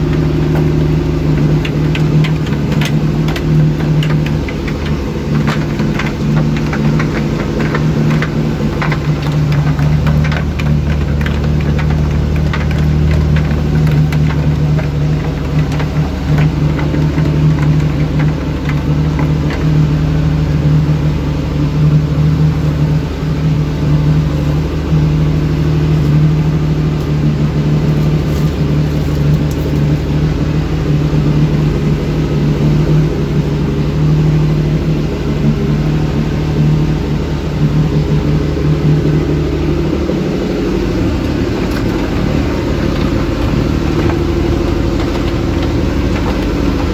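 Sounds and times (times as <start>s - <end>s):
boat motor humming: 0.0s - 46.9s
water rushing along hull: 0.0s - 46.9s.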